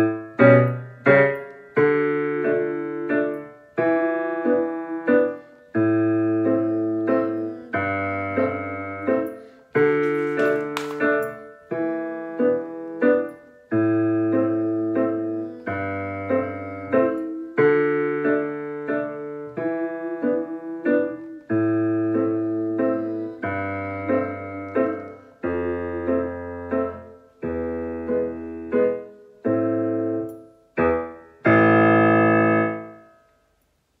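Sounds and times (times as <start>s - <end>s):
digital piano waltz accompaniment: 0.0s - 33.5s.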